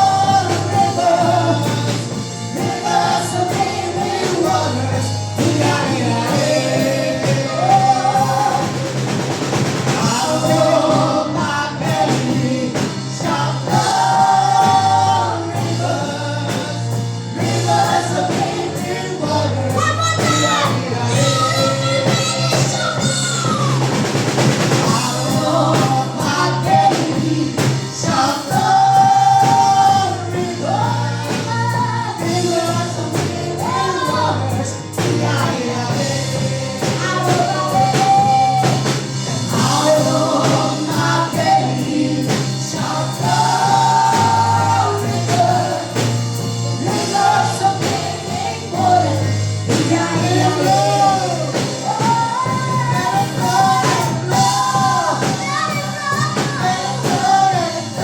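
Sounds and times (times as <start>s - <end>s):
band with bass and drums: 0.0s - 58.0s
gospel choir singing: 0.0s - 58.0s.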